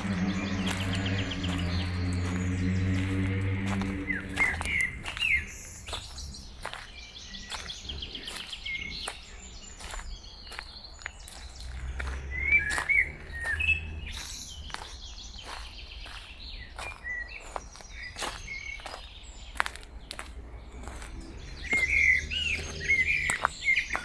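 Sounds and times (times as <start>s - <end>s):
footsteps on forest path: 0.0s - 24.0s
songbirds chirping: 0.0s - 24.0s.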